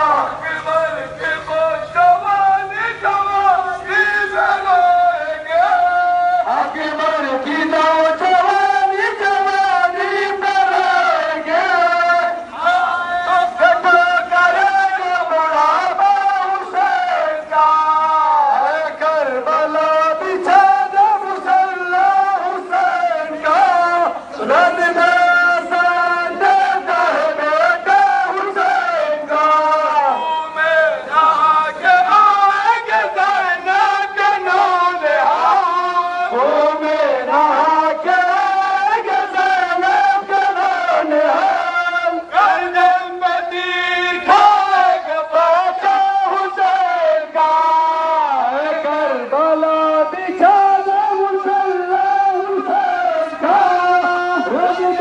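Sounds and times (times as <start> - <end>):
man chanting a lament: 0.0 - 55.0.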